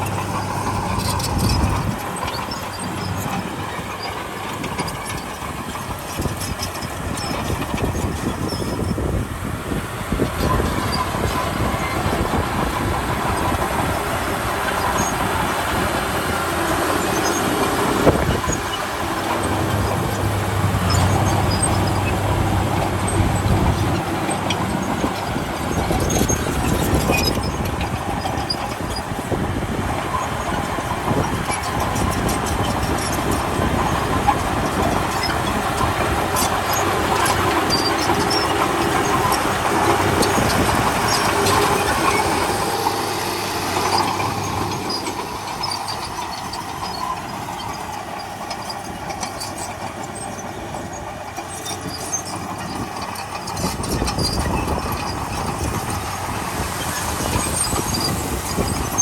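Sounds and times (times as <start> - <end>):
diesel engine under load: 0.0 - 59.0
steel tracks clanking: 0.0 - 59.0.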